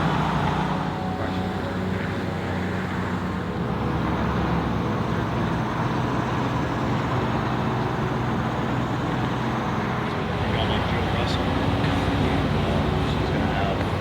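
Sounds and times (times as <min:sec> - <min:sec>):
engine humming: 0:00.0 - 0:14.0
road traffic noise: 0:00.0 - 0:14.0.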